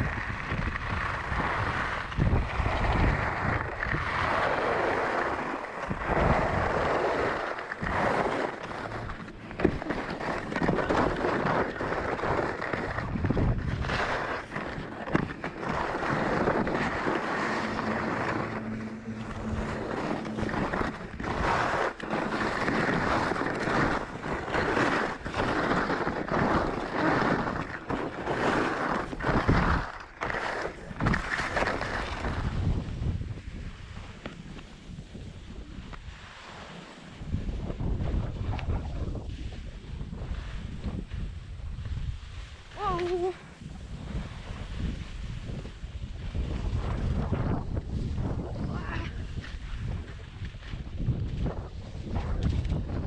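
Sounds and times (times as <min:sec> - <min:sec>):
skis scraping over snow: 0:00.0 - 0:53.0
wind buffeting microphone: 0:00.0 - 0:53.0.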